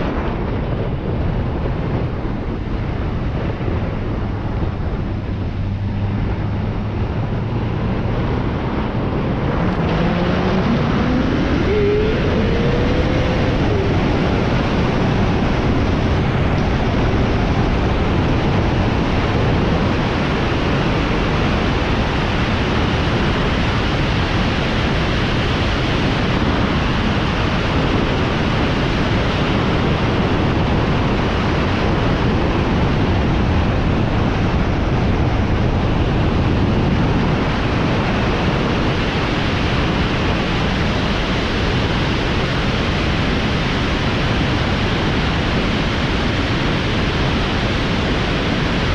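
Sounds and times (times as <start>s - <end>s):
wind on microphone: 0.0s - 48.9s.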